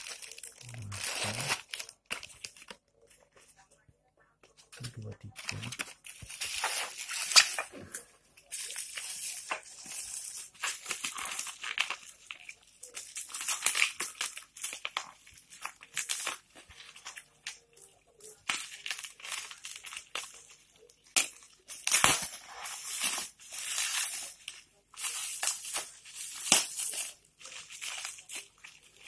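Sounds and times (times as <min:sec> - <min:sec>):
bubble wrap crinkling: 0:00.0 - 0:03.8, 0:04.5 - 0:29.0.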